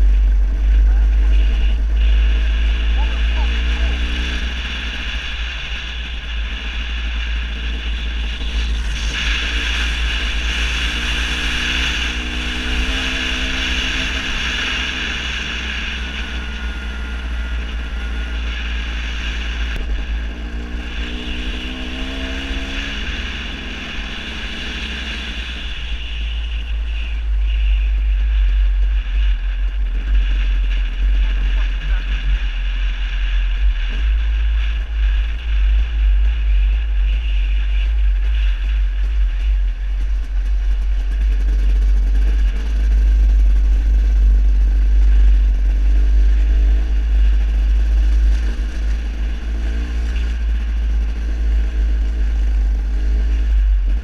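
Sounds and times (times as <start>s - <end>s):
dirt bike engine running: 0.0s - 54.0s
wind rumble on microphone: 0.0s - 54.0s.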